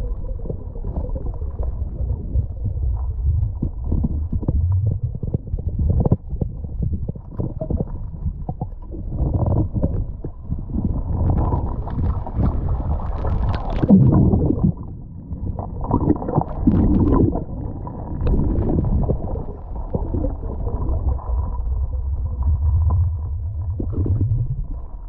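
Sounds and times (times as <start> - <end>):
gurgling bubbles: 0.0 - 25.0
underwater low rumble: 0.0 - 25.0.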